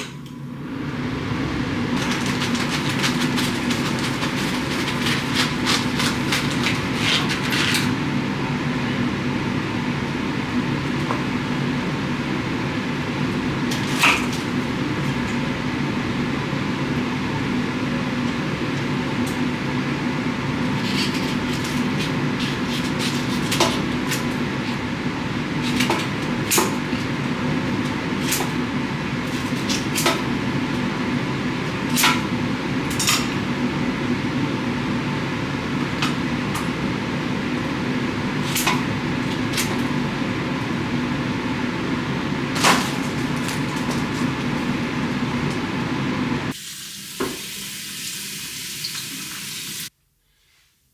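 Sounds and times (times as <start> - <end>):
steady low hum: 0.0 - 46.6.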